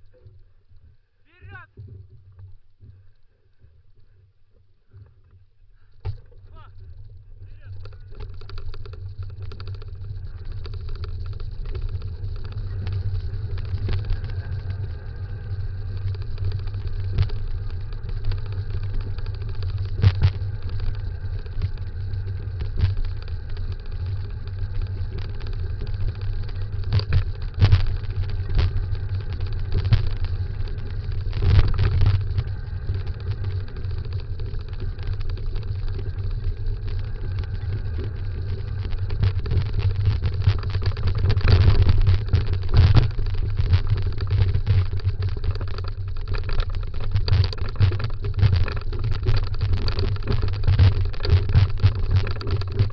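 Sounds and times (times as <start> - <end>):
wheels rumbling on dirt trail: 0.0 - 52.9.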